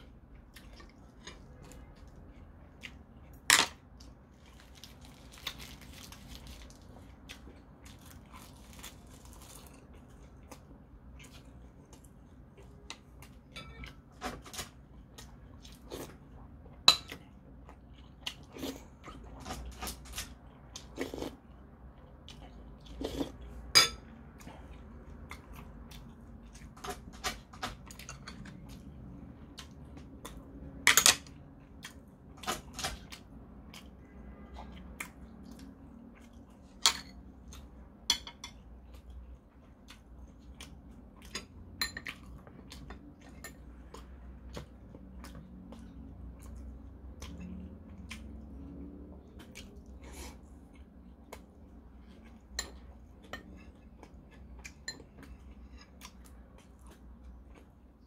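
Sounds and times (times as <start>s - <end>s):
man chewing food: 0.0s - 58.0s.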